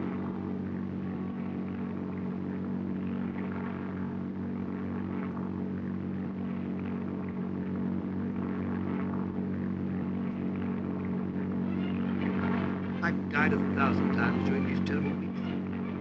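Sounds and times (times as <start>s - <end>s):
propeller airplane engine droning: 0.0s - 16.0s.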